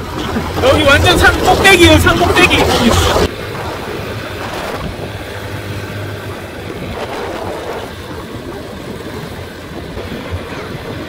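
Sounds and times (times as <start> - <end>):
motorbike engine humming: 0.0 - 11.0
wind rushing over microphone: 0.0 - 11.0.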